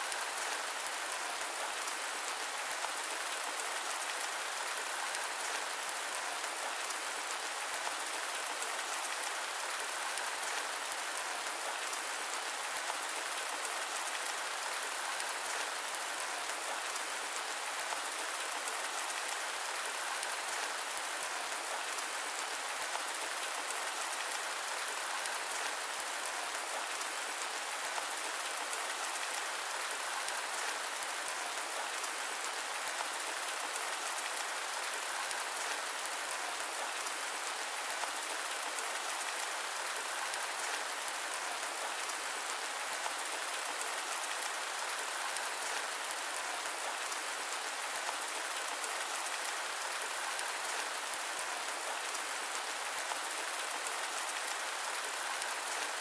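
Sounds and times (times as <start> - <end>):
patter of raindrops: 0.0 - 56.0
steady rain hiss: 0.0 - 56.0.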